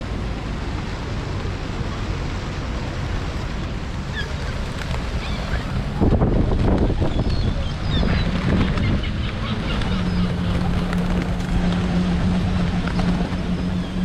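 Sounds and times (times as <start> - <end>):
surf: 0.0 - 14.0
wind buffeting microphone: 0.1 - 14.0.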